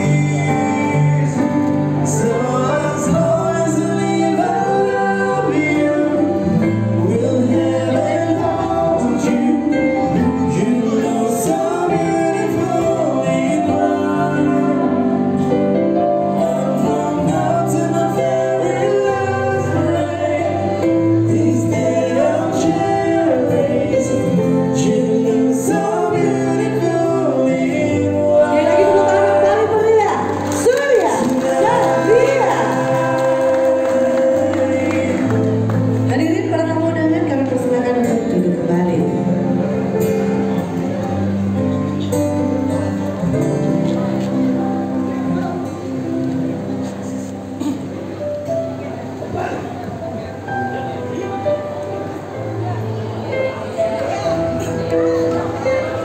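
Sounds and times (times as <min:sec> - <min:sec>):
song with singing and bass: 0:00.0 - 0:48.2.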